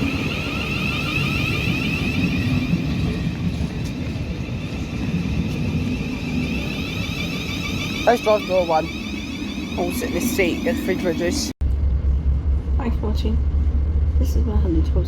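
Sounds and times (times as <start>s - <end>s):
electric train rumbling: 0.0s - 15.0s
high steady whine of train: 0.0s - 15.0s.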